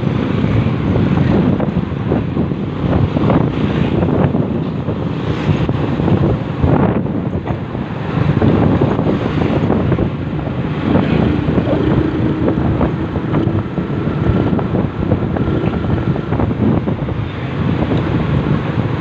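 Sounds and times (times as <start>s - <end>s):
vehicle road noise: 0.0s - 19.0s
wind buffeting microphone: 0.0s - 19.0s.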